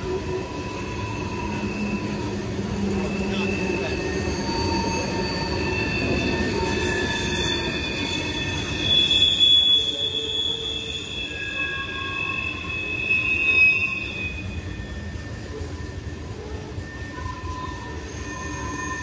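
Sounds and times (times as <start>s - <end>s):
high wheel squealing: 0.0s - 19.0s
train wheels rumbling on rail: 0.0s - 19.0s.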